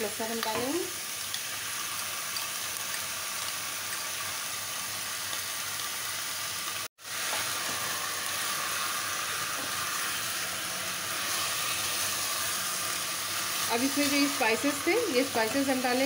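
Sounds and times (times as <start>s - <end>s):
meat sizzling in hot oil: 0.0s - 16.0s.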